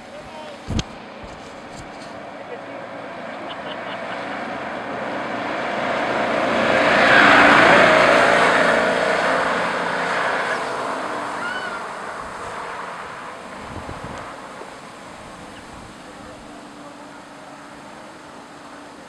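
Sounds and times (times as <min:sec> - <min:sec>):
golf cart driving past: 0:00.0 - 0:19.0.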